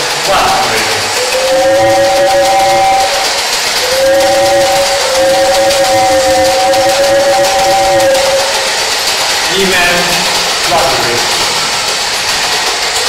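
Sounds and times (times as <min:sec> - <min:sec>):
long held musical note: 0:00.3 - 0:11.6.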